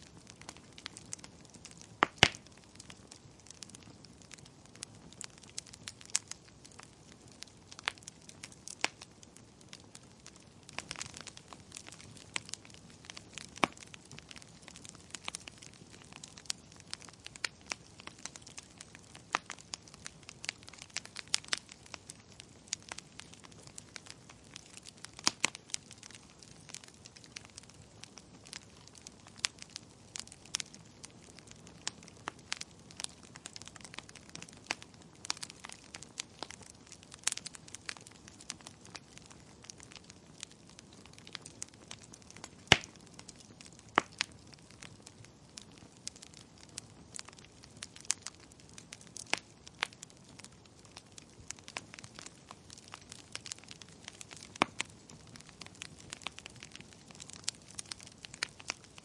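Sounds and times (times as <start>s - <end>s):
burning logs crackling and popping: 0.0s - 59.0s
faint steady hiss: 0.0s - 59.0s.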